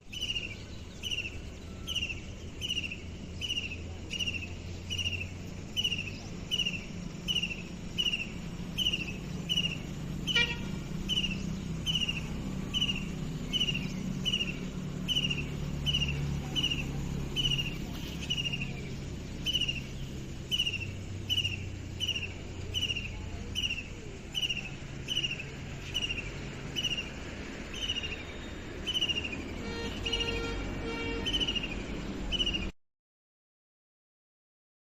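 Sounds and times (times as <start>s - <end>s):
bird whistled call: 0.0s - 32.7s.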